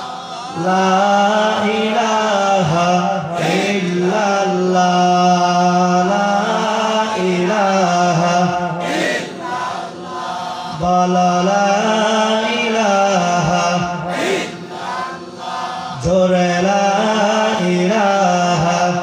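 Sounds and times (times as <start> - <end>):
man chanting into a microphone: 0.0 - 8.9, 9.9 - 19.0.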